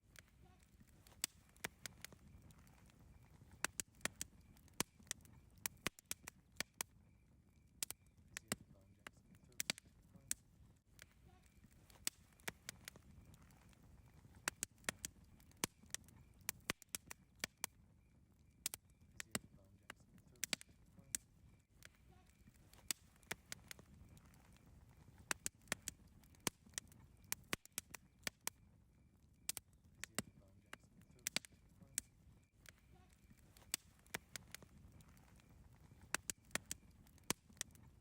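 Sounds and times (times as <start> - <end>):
campfire crackling and popping: 0.0 - 38.0
low rumble of burning wood: 0.0 - 38.0.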